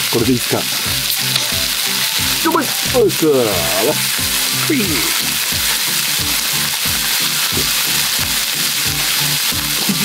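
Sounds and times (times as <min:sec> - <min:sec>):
meat sizzling in a pan: 0:00.0 - 0:10.0
plucked background music: 0:00.0 - 0:10.0.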